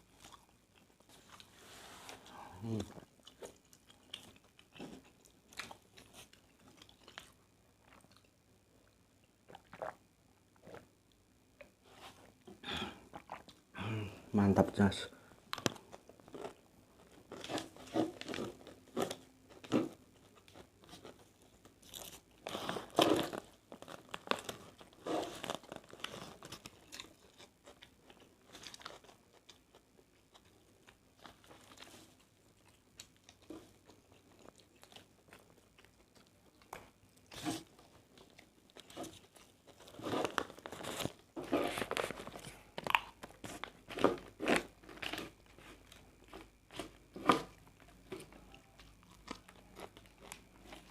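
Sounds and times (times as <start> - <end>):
person chewing crunchy food: 0.0 - 13.7, 15.4 - 50.9.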